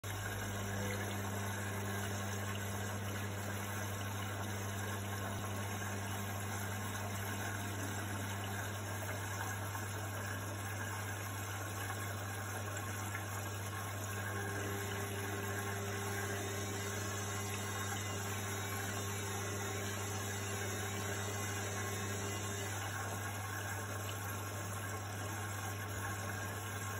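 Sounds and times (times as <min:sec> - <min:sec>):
washing machine humming: 0:00.0 - 0:26.9.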